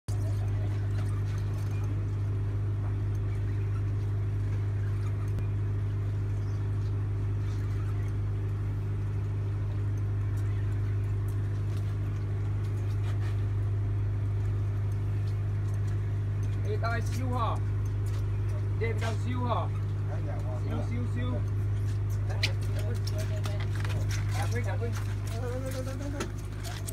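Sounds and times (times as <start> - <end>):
boat engine droning: 0.1 - 26.9.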